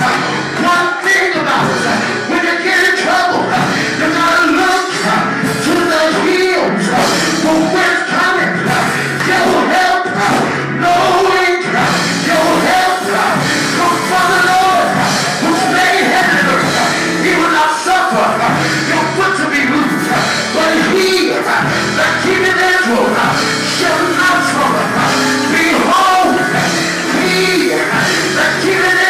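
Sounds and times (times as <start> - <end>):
loud live music with singing: 0.0 - 29.0.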